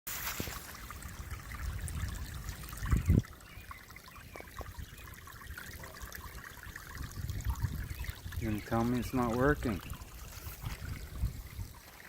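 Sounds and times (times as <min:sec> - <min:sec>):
water trickling through a ditch: 0:00.1 - 0:12.0.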